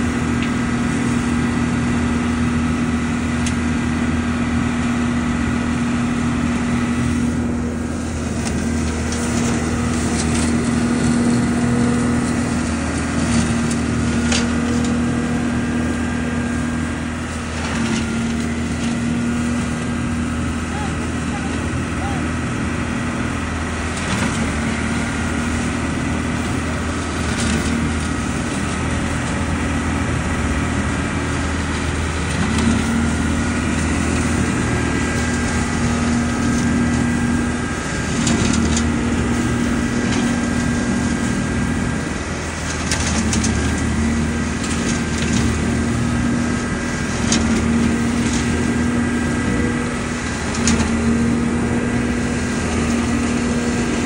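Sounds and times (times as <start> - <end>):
leaf vacuum engine droning: 0.0 - 54.0
leaves crackling through hose: 7.1 - 22.2, 23.6 - 54.0.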